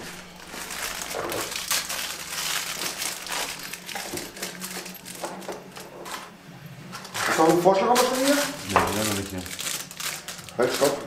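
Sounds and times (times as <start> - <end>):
plastic packaging crinkling: 0.0 - 6.4, 7.1 - 11.0.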